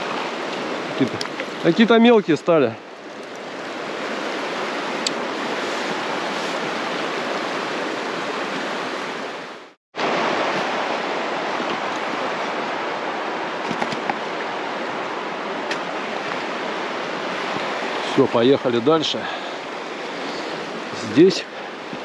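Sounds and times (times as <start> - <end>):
river rushing over rapids: 0.0 - 22.0.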